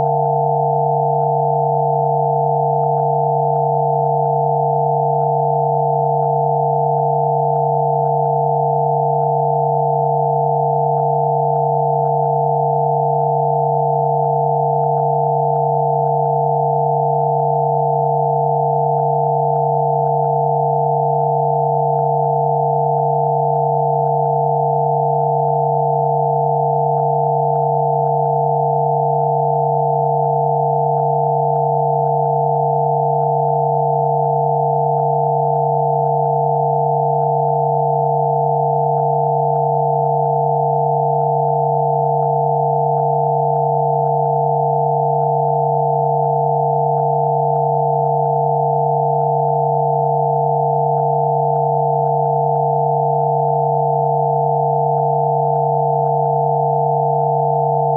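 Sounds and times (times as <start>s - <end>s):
synthesized sine tones: 0.0s - 57.9s.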